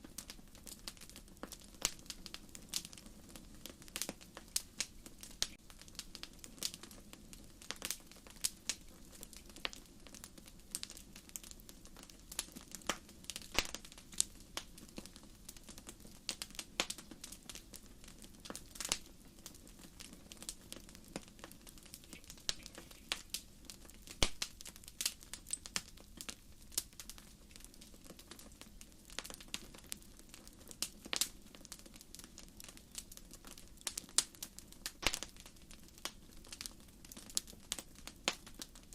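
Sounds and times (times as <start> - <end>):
campfire crackling and popping: 0.0 - 38.9
low rumble of flames: 0.0 - 38.9.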